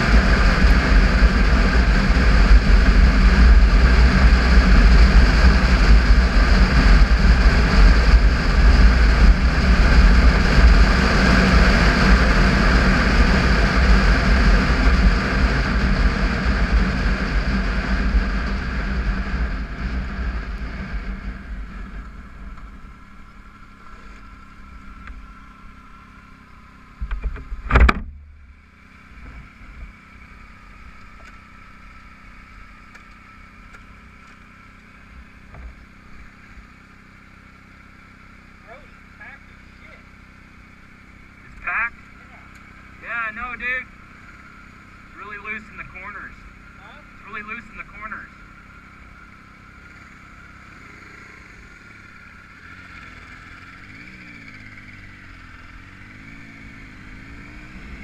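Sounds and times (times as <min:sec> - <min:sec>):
engine idling: 0:00.0 - 0:58.0
motorcycle engine: 0:00.0 - 0:58.0.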